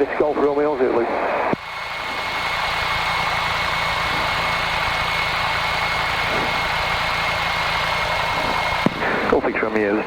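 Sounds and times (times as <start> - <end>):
light aircraft engine idling: 0.0 - 10.0
thin steady whine: 0.0 - 10.0.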